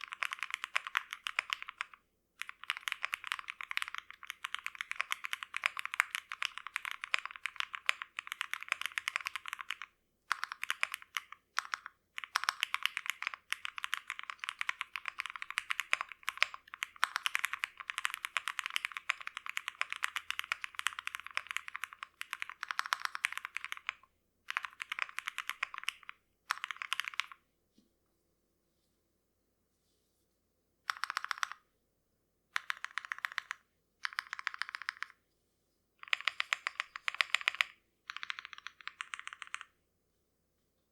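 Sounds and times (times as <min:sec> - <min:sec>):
fast typing on mechanical keyboard: 0:00.0 - 0:27.4, 0:30.9 - 0:31.6, 0:32.6 - 0:35.2, 0:36.0 - 0:39.7.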